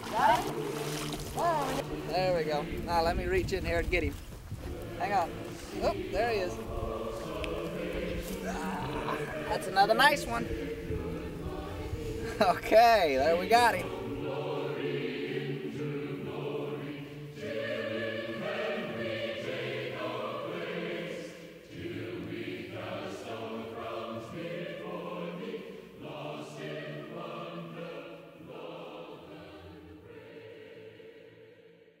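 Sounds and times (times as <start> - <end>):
choir singing: 0.0 - 3.6, 4.5 - 32.0.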